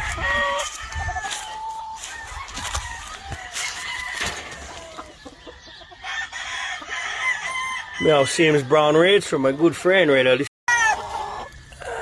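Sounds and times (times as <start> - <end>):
roosters crowing: 0.0 - 9.2, 10.7 - 12.0
chickens clucking: 0.0 - 12.0.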